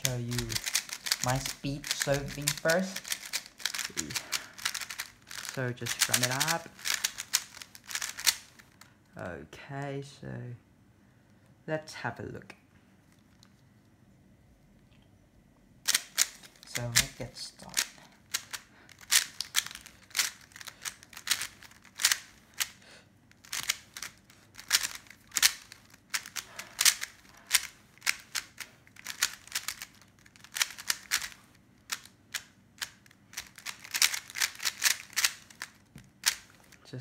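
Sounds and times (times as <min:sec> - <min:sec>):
puzzle cube plastic clacking: 0:00.0 - 0:08.9, 0:15.9 - 0:36.9.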